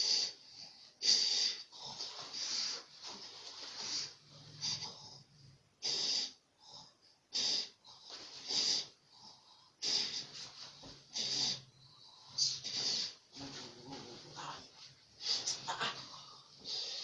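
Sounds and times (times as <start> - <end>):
wheezy snoring breaths: 0.0 - 17.0.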